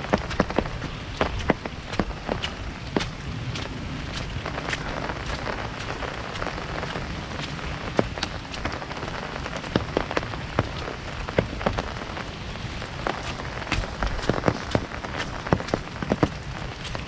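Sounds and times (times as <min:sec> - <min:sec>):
large drops tapping umbrella: 0:00.0 - 0:17.0
rain hissing on umbrella: 0:00.0 - 0:17.0.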